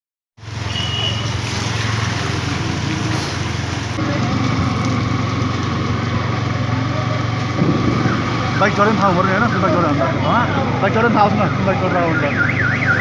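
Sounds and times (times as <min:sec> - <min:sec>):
motorcycle engine running: 0:00.5 - 0:11.9.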